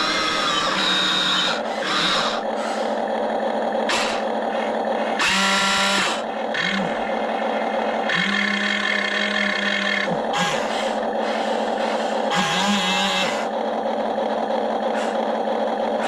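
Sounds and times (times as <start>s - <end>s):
toy electric motors whining: 0.0s - 16.0s.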